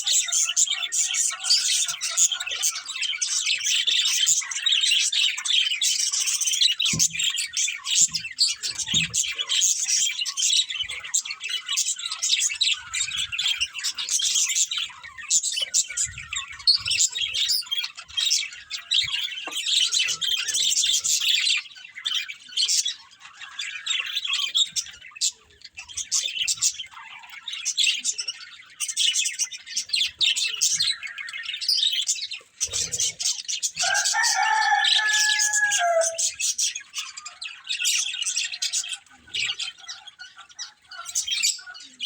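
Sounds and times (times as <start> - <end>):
budgerigars chirping: 0.0 - 42.0.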